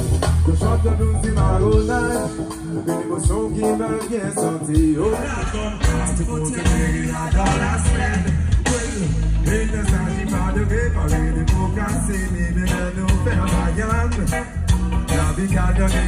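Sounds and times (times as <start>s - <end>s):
bass guitar: 0.0s - 16.0s
reggae band playing: 0.0s - 16.0s
person singing: 0.1s - 16.0s.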